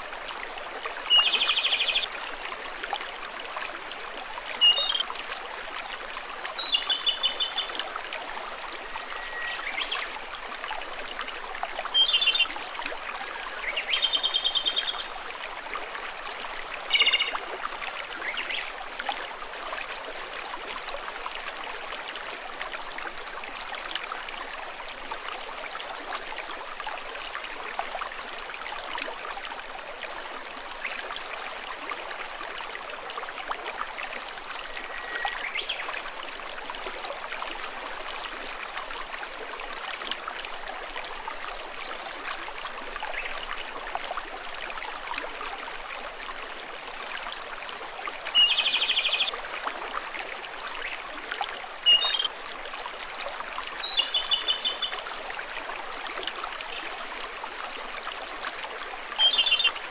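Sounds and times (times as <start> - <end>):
mountain stream running: 0.0 - 59.9.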